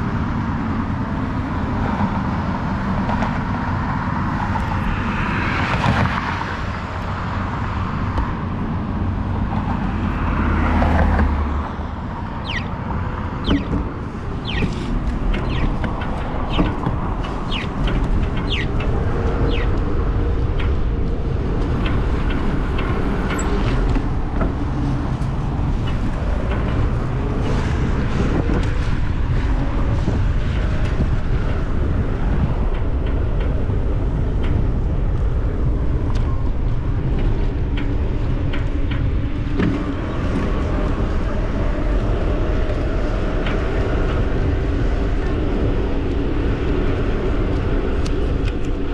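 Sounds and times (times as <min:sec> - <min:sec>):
wind on microphone: 0:00.0 - 0:48.9.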